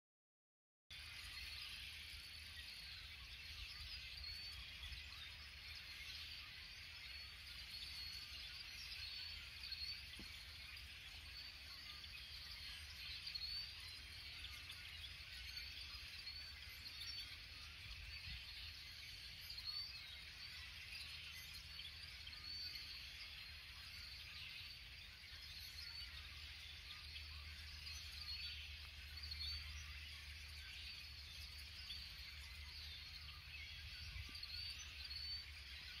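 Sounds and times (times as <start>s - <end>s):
chorus of high chirps and trills: 0.9s - 36.0s.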